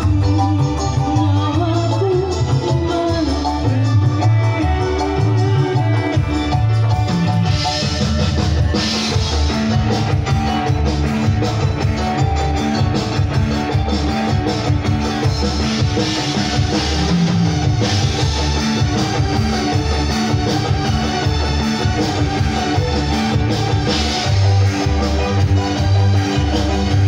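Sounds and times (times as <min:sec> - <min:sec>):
drum kit beat: 0:00.0 - 0:27.0
live band playing: 0:00.0 - 0:27.0.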